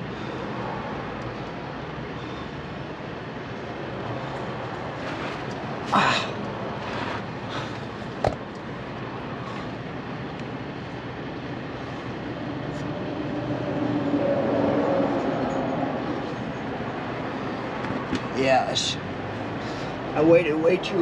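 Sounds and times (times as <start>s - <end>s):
vehicle rumbling: 0.0s - 21.0s.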